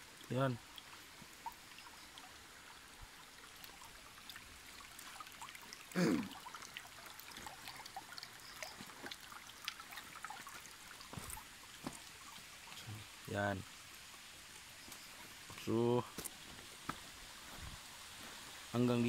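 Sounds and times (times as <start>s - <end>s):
creek water trickling over stones: 0.0s - 19.0s.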